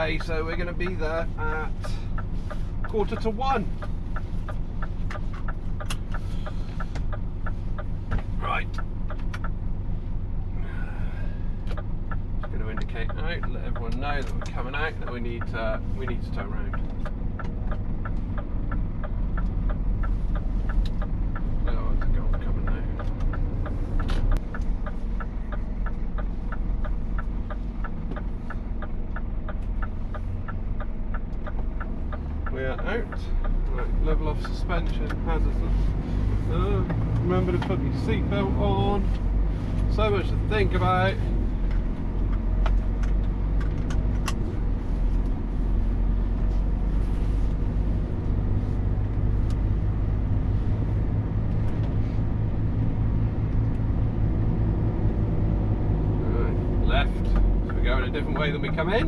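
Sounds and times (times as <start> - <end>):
diesel engine idling: 0.0 - 59.0
turn signal ticking: 0.0 - 59.0.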